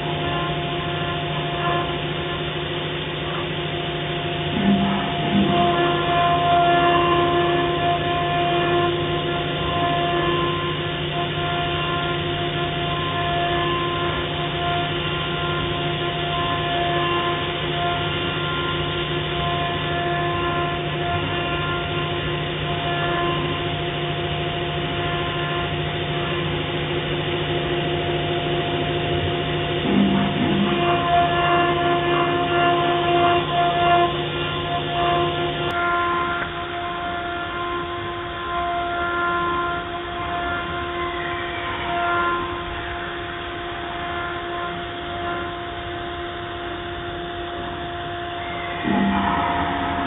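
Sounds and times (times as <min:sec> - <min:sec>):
milling machine spindle whine: 0:00.0 - 0:50.0
wavering tone: 0:00.0 - 0:50.0.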